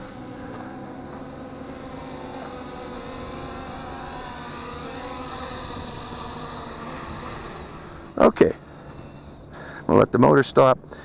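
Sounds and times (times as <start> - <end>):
quadcopter propellers buzzing: 0.0 - 11.0.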